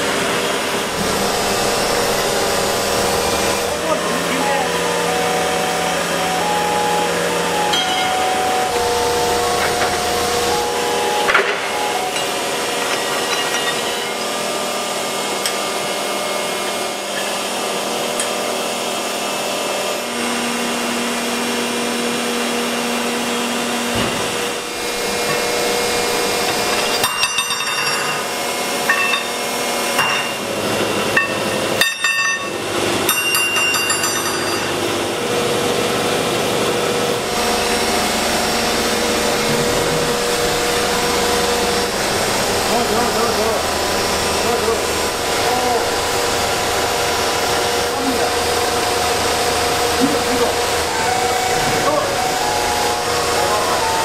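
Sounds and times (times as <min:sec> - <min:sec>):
factory machinery humming: 0:00.0 - 0:54.0.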